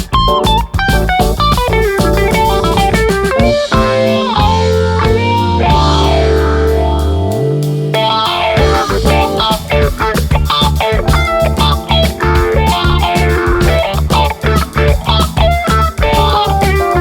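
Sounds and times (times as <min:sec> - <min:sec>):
funk music with guitar and drums: 0:00.0 - 0:17.0.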